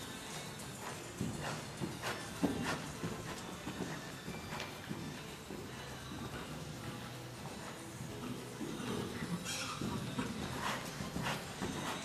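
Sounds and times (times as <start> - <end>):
horse hoofbeats trotting on sand: 0.0 - 12.0.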